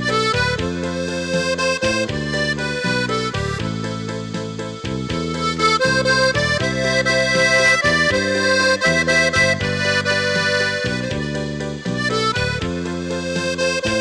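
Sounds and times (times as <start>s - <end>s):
accordion music: 0.0s - 14.0s
bass line: 0.0s - 14.0s.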